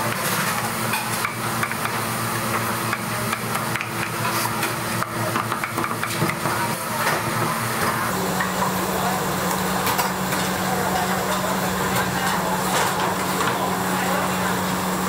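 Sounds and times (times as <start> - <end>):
kitchen hiss and hum: 0.0 - 15.0.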